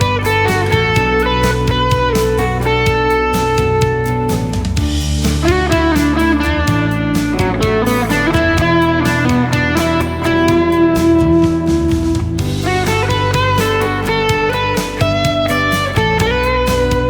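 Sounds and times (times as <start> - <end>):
backing track with drums and bass: 0.0 - 17.0
electric guitar lead: 0.0 - 17.0.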